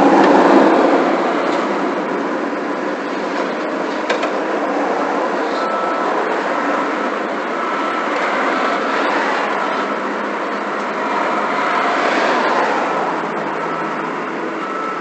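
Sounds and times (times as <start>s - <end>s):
heavy vehicle rushing noise: 0.0s - 15.0s.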